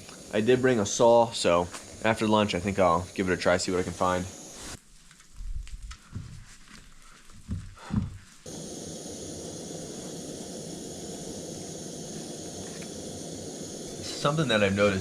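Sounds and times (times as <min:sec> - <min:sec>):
camping stove hissing: 0:00.0 - 0:04.8, 0:07.3 - 0:15.0.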